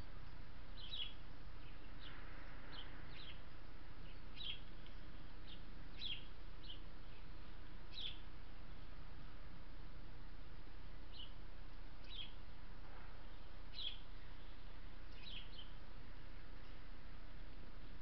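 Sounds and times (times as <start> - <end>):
small birds chirping: 0.0 - 9.5, 10.1 - 18.0.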